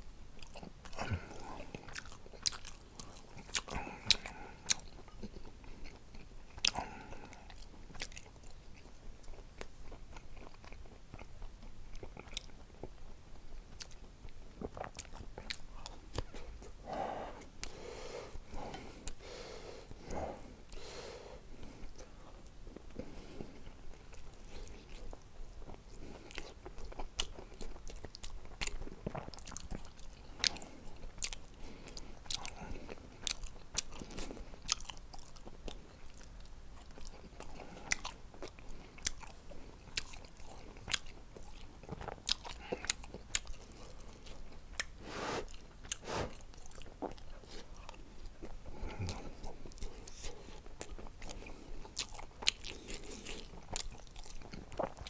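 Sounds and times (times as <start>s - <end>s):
person chewing with mouth clicks: 0.4s - 16.8s, 21.6s - 55.0s.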